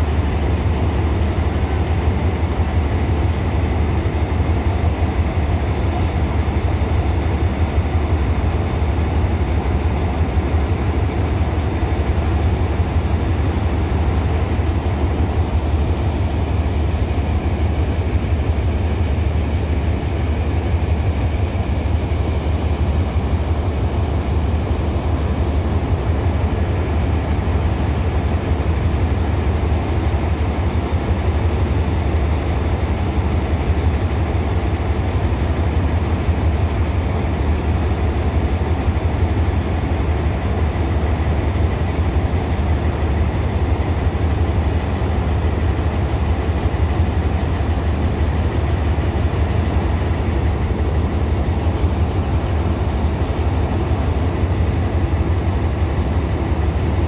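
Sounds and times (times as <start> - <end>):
locomotive idling: 0.0 - 57.0.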